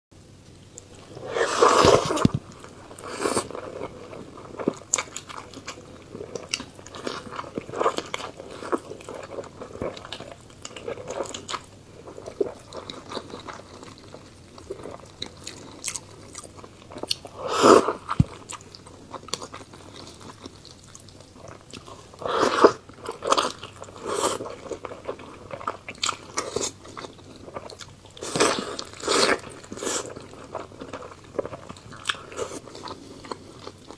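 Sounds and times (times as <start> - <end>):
person chewing food: 0.7 - 33.9.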